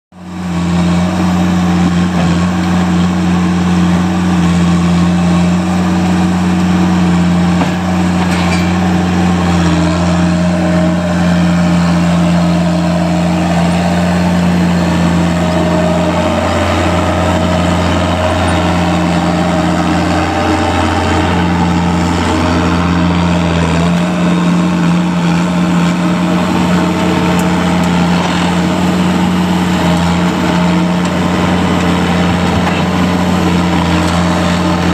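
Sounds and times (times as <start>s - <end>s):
large vehicle engine idling: 0.2s - 34.9s.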